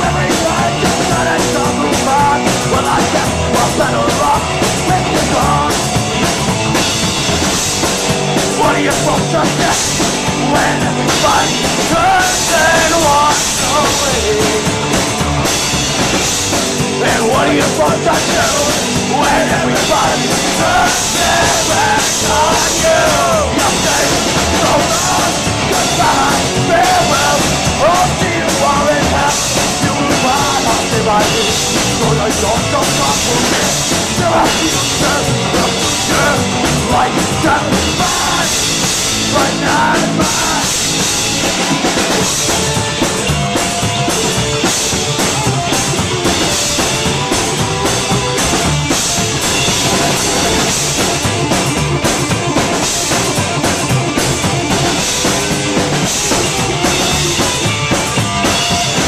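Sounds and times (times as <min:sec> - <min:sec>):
drum kit with cymbals: 0:00.0 - 0:59.0
live rock band: 0:00.0 - 0:59.0
pitch-bending lead guitar line: 0:00.0 - 0:59.0.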